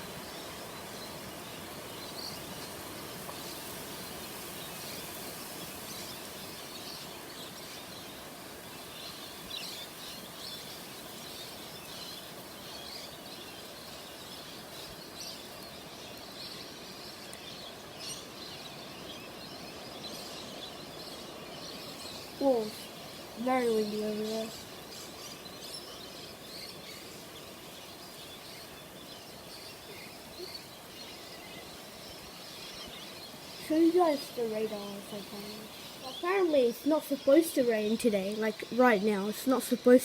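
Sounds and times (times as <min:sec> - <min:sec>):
birds chirping and calling: 0:00.0 - 0:40.0
rain: 0:00.0 - 0:40.0.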